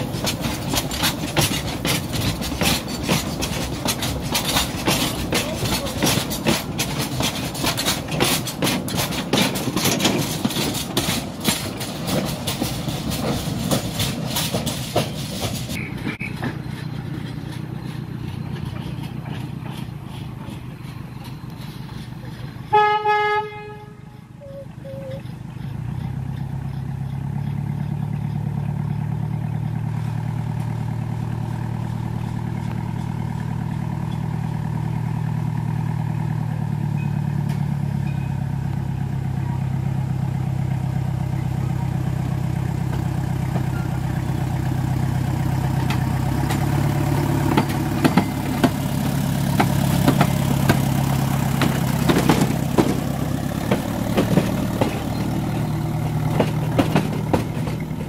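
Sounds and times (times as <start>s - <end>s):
locomotive engine running: 0.0s - 58.0s
wheels clacking over rail joints: 0.0s - 58.0s.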